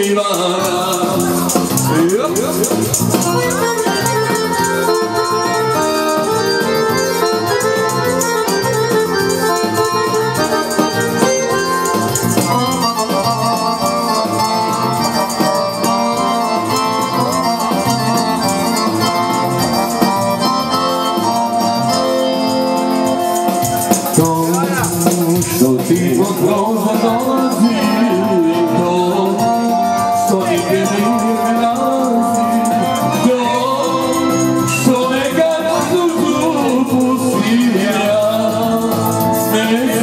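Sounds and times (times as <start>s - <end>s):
loud dance music: 0.0s - 40.0s
tambourine jingling: 0.0s - 40.0s.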